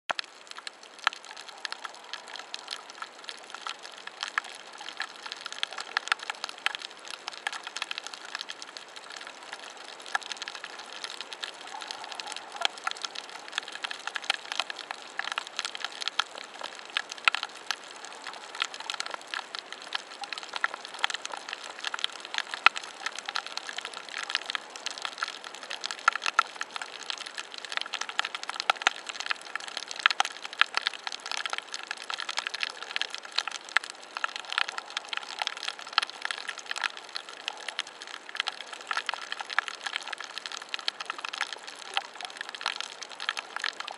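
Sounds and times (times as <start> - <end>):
snapping shrimp crackling underwater: 0.1 - 43.9.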